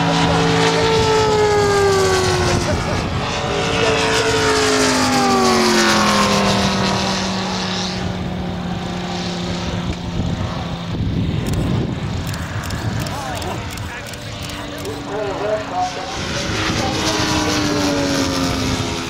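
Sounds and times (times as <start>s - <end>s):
model aircraft engine droning: 0.0s - 19.0s.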